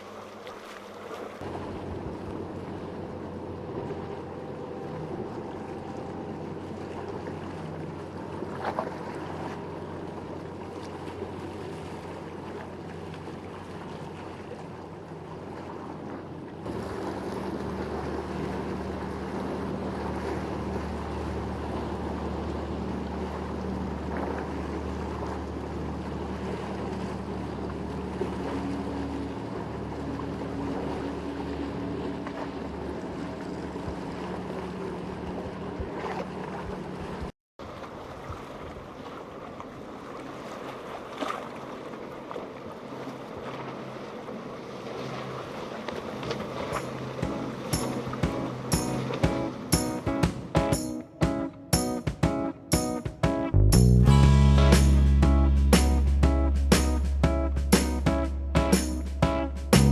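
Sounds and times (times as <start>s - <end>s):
motorboat engines running: 0.0s - 37.3s, 38.6s - 59.9s
water noise: 0.0s - 59.9s
wind: 0.0s - 59.9s.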